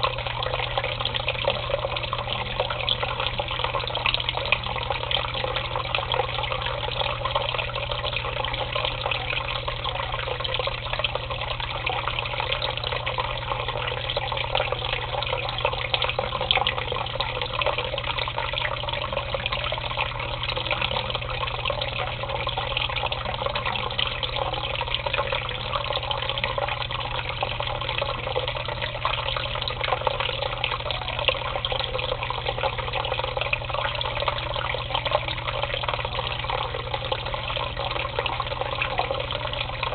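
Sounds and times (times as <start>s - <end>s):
low steady hum: 0.0s - 39.9s
water running into a tub: 0.0s - 39.9s.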